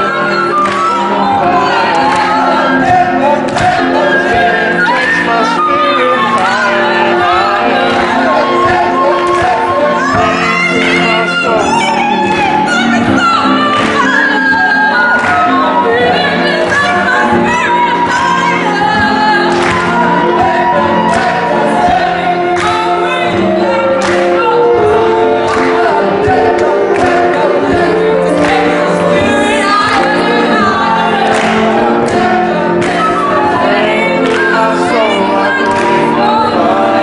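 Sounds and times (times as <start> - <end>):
group singing in chorus: 0.0 - 37.0
woman singing into microphone: 0.0 - 37.0.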